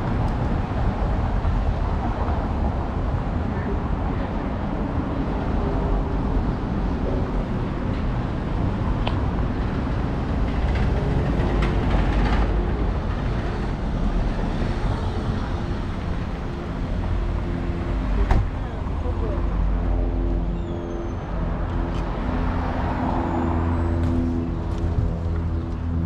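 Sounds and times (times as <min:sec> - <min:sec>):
vehicles passing with rumble: 0:00.0 - 0:26.0.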